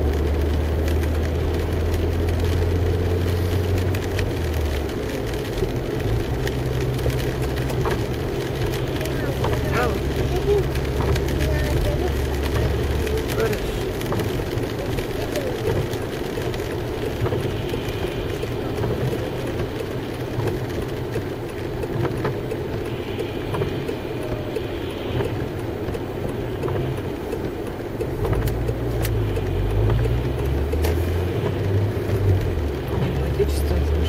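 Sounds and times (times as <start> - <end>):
car engine rumble: 0.0 - 34.0
tyres on wet road: 0.0 - 34.0.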